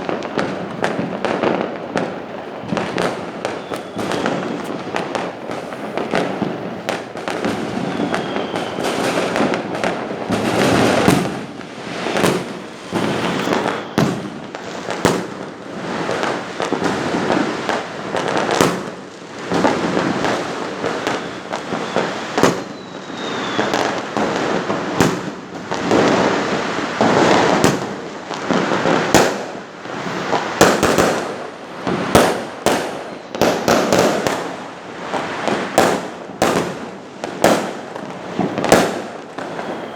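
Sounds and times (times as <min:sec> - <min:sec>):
falling firework whistles: 0:00.0 - 0:39.9
fireworks bangs and crackling: 0:00.0 - 0:39.9.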